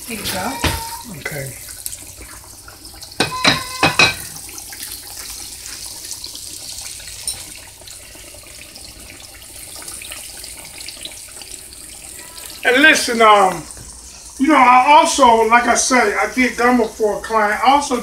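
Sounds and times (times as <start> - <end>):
fish frying in hot oil: 0.0 - 18.0.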